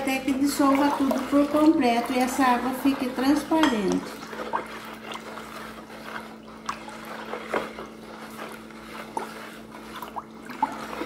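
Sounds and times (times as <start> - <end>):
water swishing in plastic basin: 0.0 - 11.0.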